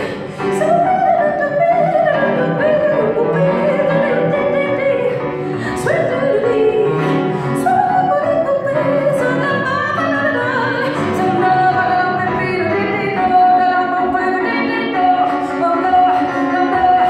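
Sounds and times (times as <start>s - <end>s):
grand piano accompaniment: 0.0s - 17.0s
woman singing jazz: 0.0s - 17.0s.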